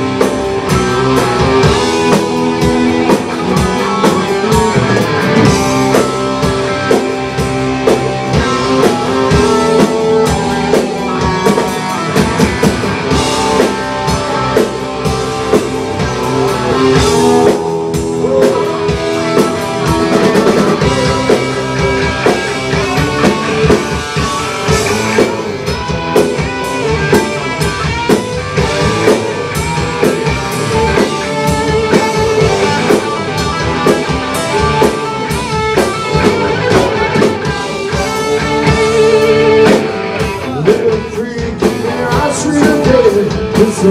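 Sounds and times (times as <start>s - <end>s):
bass guitar: 0.0s - 43.9s
drum kit: 0.0s - 43.9s
electric guitars: 0.0s - 43.9s.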